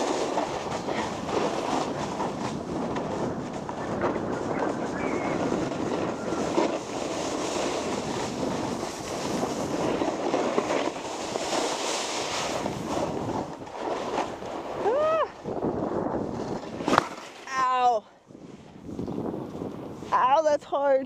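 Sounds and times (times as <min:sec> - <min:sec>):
snowboard scraping over snow: 0:00.0 - 0:20.3
wind on microphone: 0:00.0 - 0:21.0.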